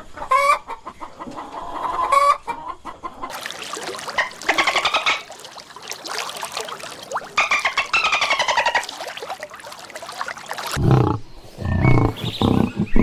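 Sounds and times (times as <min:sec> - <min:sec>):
chickens clucking: 0:00.0 - 0:11.2.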